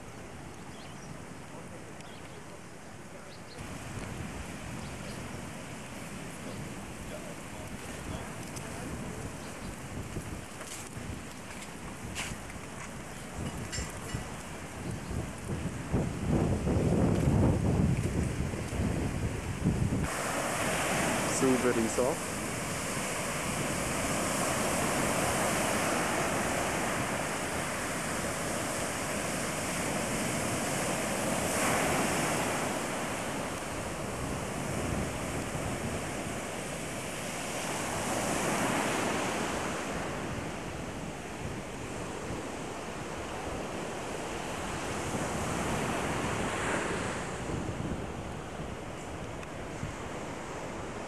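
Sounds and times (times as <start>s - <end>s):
surf breaking on beach: 3.6s - 51.0s
wind noise on microphone: 3.6s - 51.0s.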